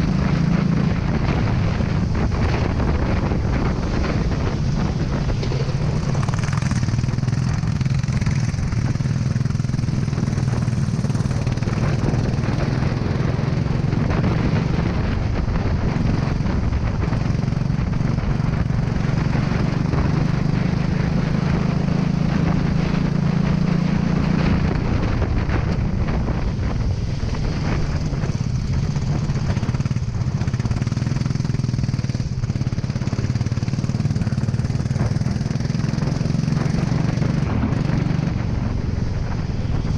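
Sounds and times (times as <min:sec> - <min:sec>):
go-kart engine revving: 0:00.0 - 0:39.9
wind noise hiss: 0:00.0 - 0:39.9.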